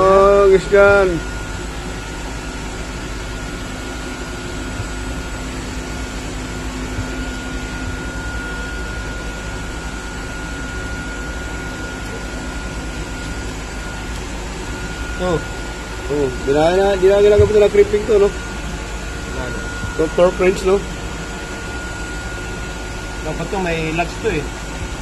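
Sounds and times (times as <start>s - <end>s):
fans and machinery drone: 0.0s - 25.0s
low hum: 0.0s - 25.0s
thin steady whine: 0.0s - 25.0s.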